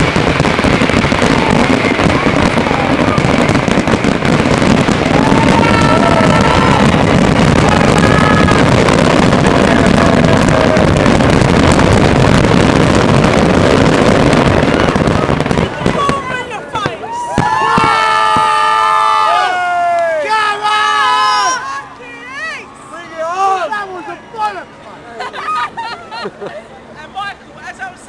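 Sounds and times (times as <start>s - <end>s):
fireworks crackling: 0.0s - 26.6s.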